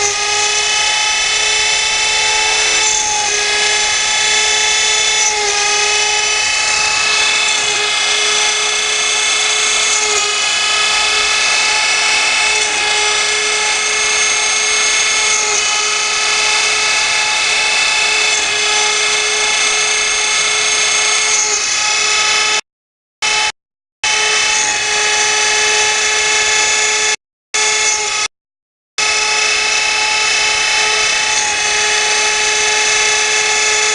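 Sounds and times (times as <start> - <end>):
router spindle whining while cutting: 0.0 - 22.6, 23.2 - 28.3, 29.0 - 33.9.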